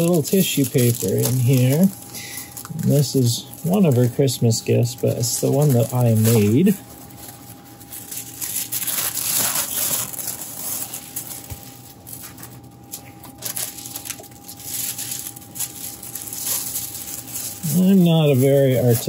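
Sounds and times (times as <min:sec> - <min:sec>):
tissue paper rustling: 0:00.0 - 0:19.0.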